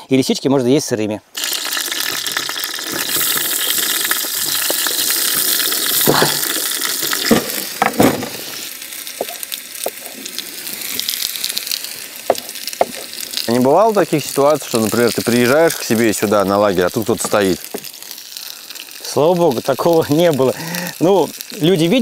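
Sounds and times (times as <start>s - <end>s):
potatoes sizzling in hot oil: 1.4s - 22.0s.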